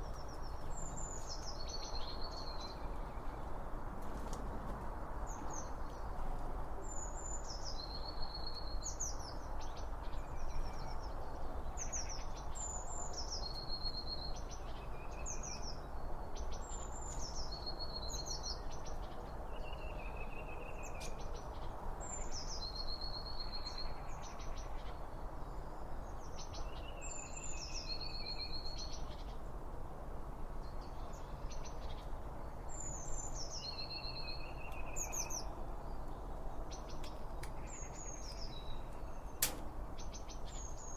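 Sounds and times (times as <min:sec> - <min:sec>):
songbird singing: 0:00.0 - 0:03.7, 0:05.0 - 0:40.9.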